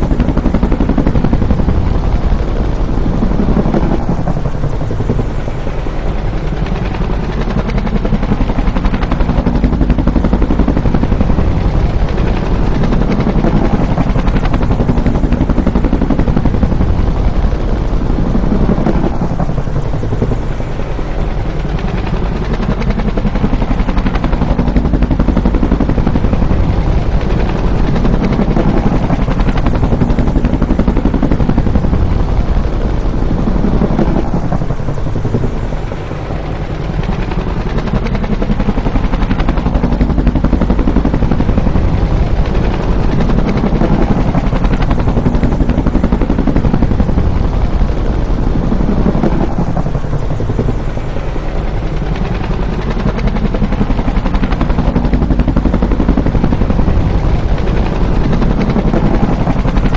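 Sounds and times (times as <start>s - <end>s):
helicopter rotor chopping: 0.0s - 59.9s.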